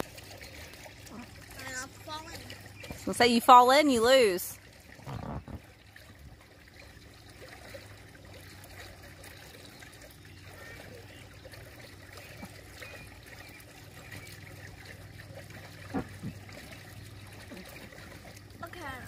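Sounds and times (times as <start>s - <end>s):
steady low hum: 0.0s - 19.0s
water trickling and lapping: 0.0s - 19.0s.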